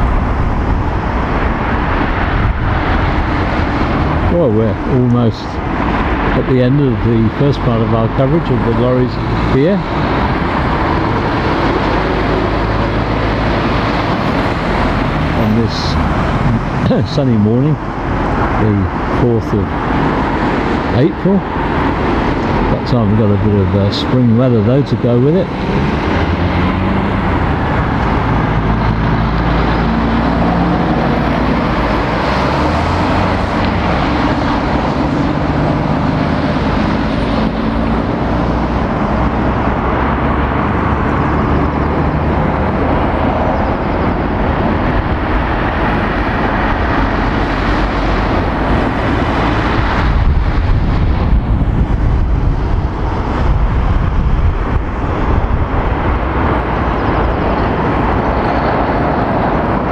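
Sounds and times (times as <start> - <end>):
deep rumble: 0.0 - 59.9
lorries and cars pulling away: 0.0 - 59.9.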